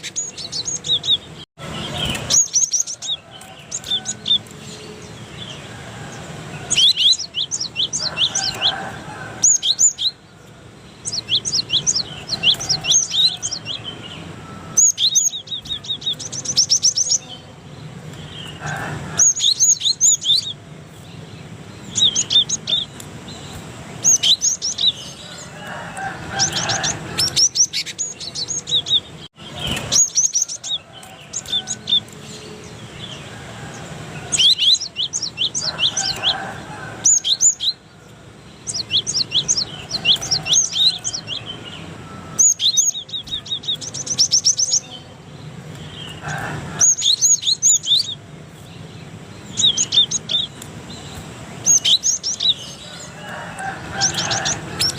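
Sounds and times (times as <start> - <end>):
bird chirping song: 0.0 - 54.9.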